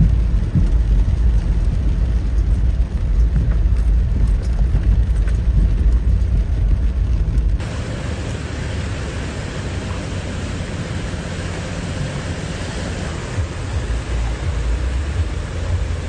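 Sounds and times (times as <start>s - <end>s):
rain and water rushing: 0.0s - 16.0s
wind rumble on microphone: 0.0s - 16.0s.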